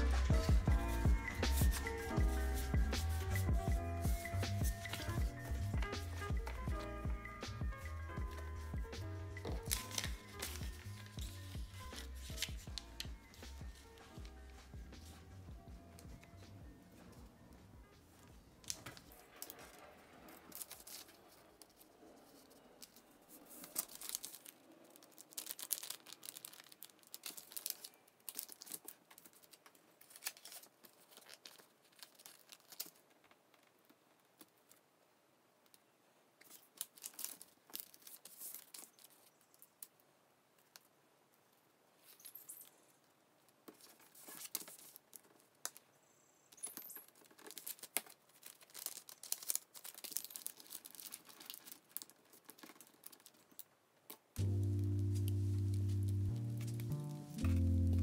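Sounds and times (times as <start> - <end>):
paper rustling and crinkling: 0.0 - 6.9, 7.5 - 34.8, 36.4 - 39.9, 43.6 - 45.8, 46.7 - 58.0.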